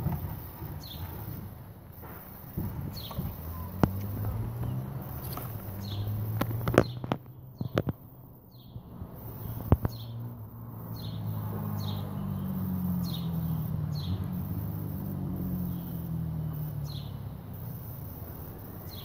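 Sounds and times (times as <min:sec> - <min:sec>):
bird chirping: 0:00.4 - 0:01.5, 0:02.4 - 0:07.9, 0:08.5 - 0:17.9, 0:18.8 - 0:19.0.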